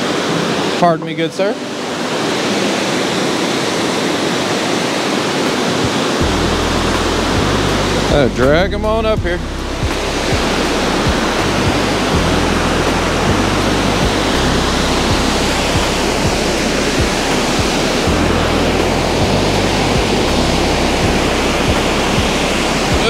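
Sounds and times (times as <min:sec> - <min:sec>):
water rushing over spillway: 0:00.0 - 0:23.0.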